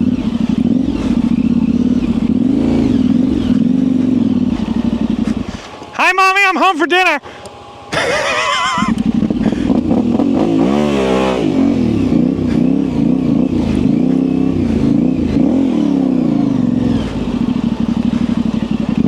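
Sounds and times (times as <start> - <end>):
motorcycle engine revving: 0.0 - 6.0, 7.2 - 19.0.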